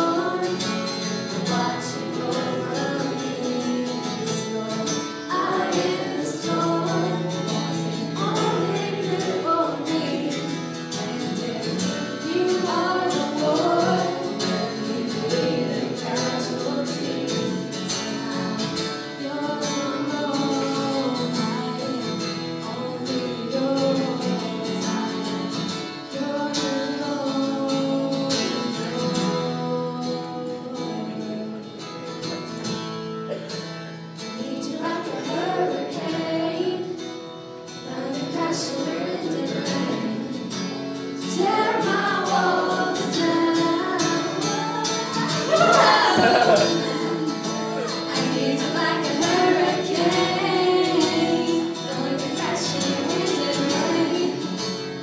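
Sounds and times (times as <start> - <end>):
woman singing into a microphone: 0.0 - 32.7, 34.2 - 55.0.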